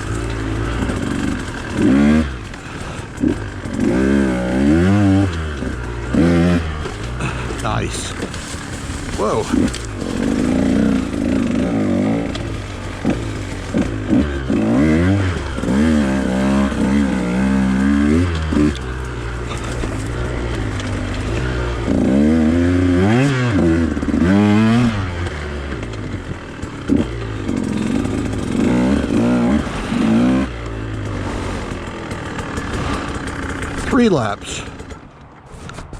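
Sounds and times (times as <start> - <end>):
dirt bike engine revving: 0.0 - 35.1.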